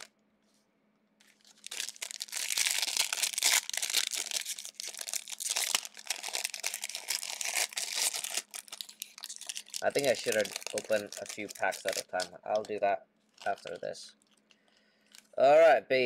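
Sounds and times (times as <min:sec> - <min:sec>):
plastic wrapper tearing and crinkling: 0:01.2 - 0:15.4.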